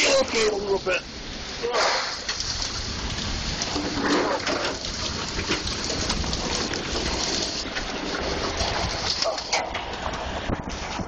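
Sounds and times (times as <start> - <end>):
hail and rain falling hard: 0.0 - 10.9.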